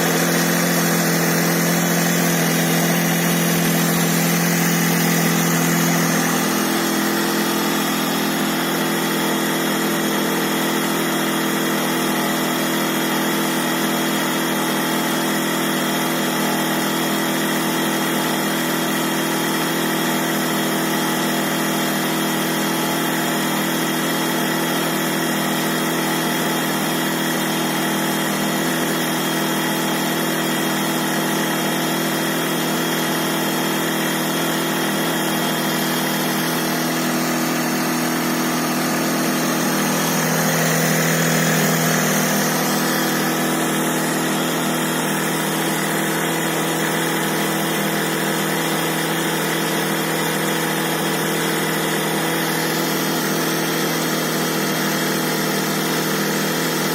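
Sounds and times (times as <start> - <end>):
electric air pump humming: 0.0 - 56.9.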